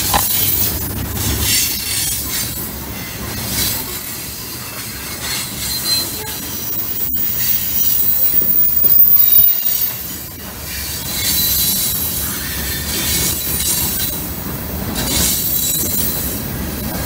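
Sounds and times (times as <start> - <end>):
steel wheels on rail: 0.0 - 17.0.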